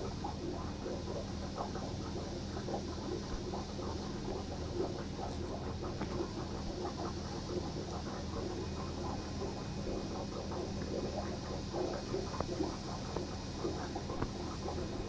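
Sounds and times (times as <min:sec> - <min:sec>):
steady low hum: 0:00.0 - 0:15.0
water bubbling and gurgling: 0:00.0 - 0:15.0.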